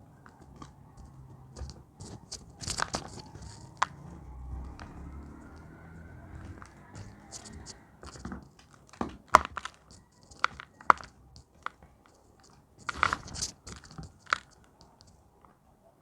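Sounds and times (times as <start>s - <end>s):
chalk crunching and crumbling: 1.6s - 15.2s.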